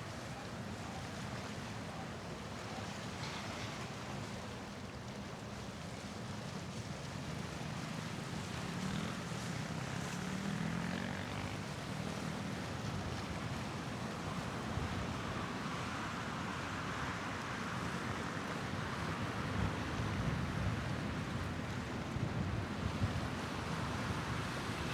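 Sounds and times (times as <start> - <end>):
waterfront ambience: 0.0 - 24.9.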